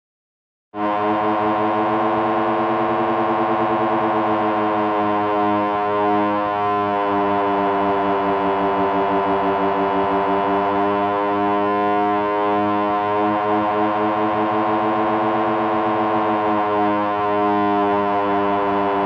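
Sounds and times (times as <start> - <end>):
synthesizer drone: 0.8 - 19.0.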